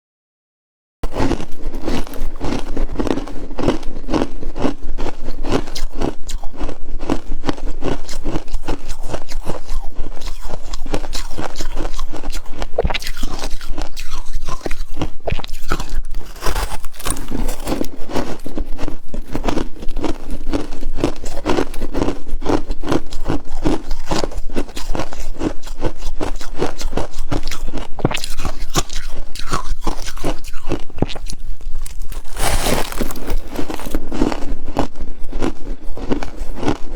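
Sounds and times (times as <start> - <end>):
crunching and chewing frost: 1.0 - 36.9.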